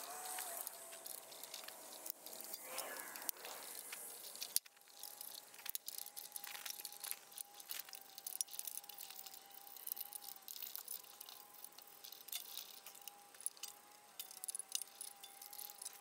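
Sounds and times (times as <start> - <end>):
metal parts and tools clinking: 0.0 - 16.0.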